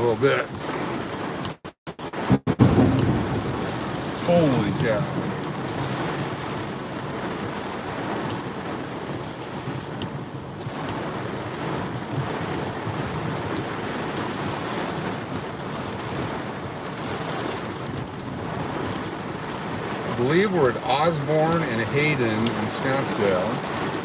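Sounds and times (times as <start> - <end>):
heavy rain on a car: 0.0 - 24.0.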